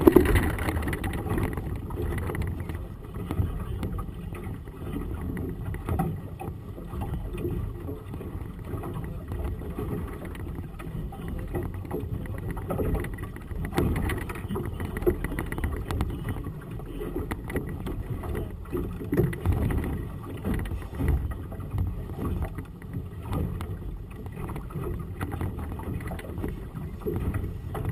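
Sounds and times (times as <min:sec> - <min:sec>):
water slapping against boat hull: 0:00.0 - 0:27.9.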